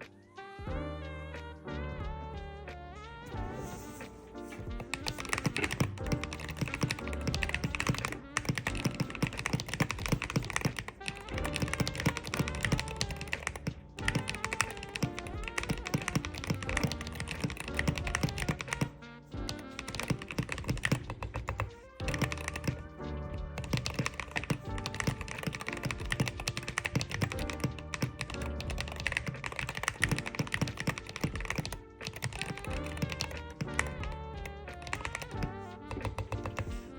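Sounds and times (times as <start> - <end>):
background music: 0.0 - 36.9
keyboard typing: 3.3 - 36.9.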